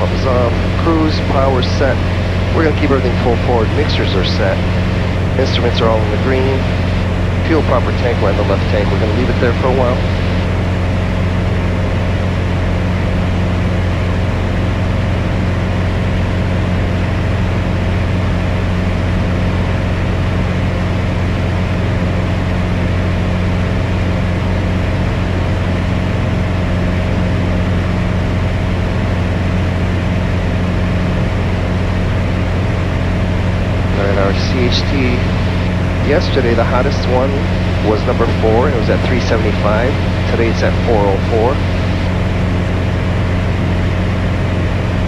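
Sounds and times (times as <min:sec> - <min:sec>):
aircraft engine humming in cabin: 0:00.0 - 0:45.0.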